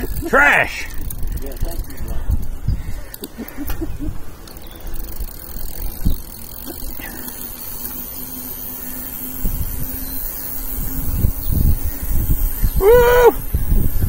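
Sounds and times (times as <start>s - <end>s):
bike freehub ratchet clicking: 0.0s - 14.0s
steady hum: 0.0s - 14.0s
wind rumbling on microphone: 0.0s - 14.0s.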